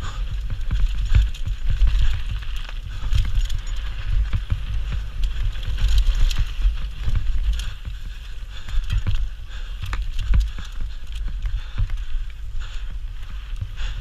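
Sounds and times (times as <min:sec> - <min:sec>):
bike tyres rumbling on dirt: 0:00.0 - 0:14.0
chain and frame rattling: 0:00.1 - 0:11.4.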